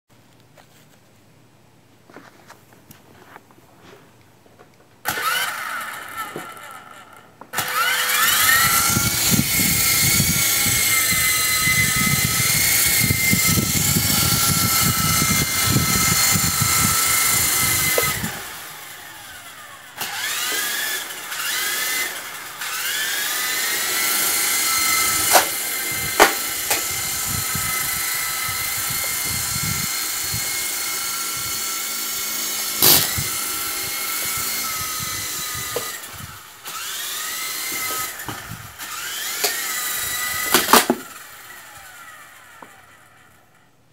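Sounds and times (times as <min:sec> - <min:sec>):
toy helicopter motors whining: 0:05.0 - 0:43.6.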